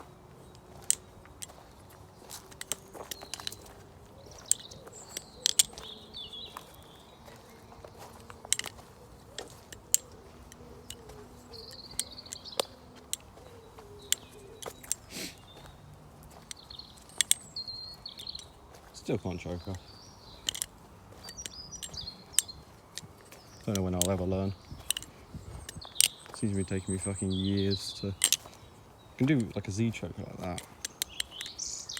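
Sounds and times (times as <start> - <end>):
birds chirping: 0.0 - 31.9
butterfly knife handles clacking: 0.0 - 31.9.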